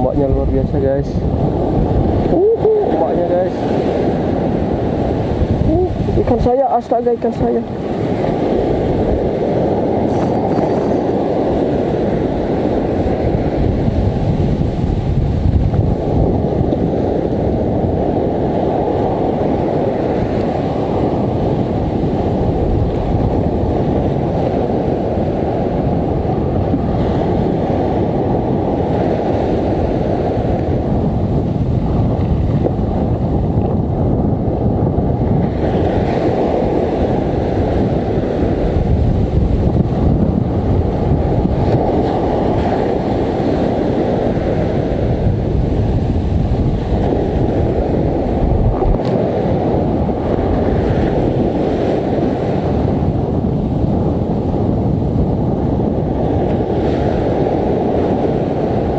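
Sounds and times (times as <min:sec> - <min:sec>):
heavy surf washing up beach: 0:00.0 - 0:58.9
wind rumbling on microphone: 0:00.0 - 0:58.9.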